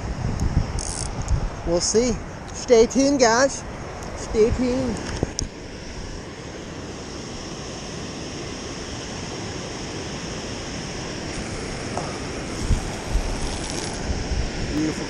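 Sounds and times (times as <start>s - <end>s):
water rushing through spillway: 1.6s - 15.0s.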